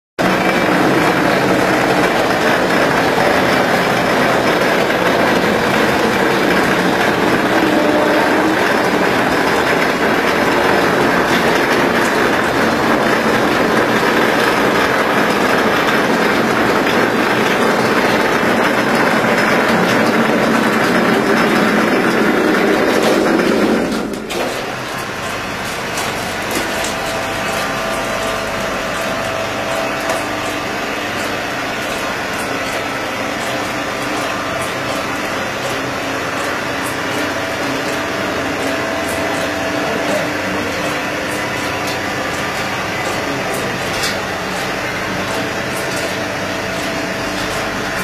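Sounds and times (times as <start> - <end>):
plastering machine running: 0.2 - 48.0.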